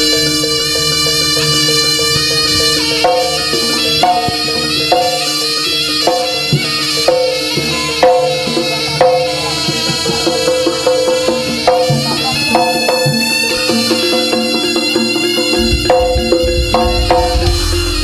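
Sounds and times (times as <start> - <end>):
drums keeping a beat: 0.0 - 18.0
gamelan music: 0.0 - 18.0.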